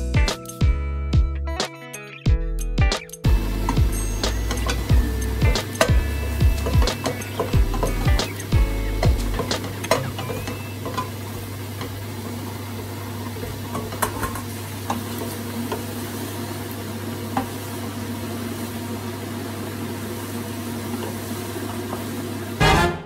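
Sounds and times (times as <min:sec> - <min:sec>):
food sizzling in oil: 0:03.2 - 0:22.8.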